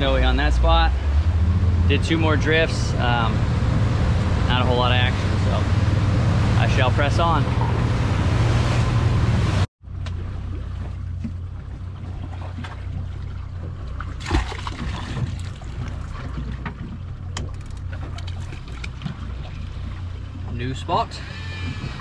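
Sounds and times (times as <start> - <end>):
boat running at speed: 0.0 - 22.0
outboard motors idling: 0.0 - 22.0
wind and wake noise: 0.0 - 22.0.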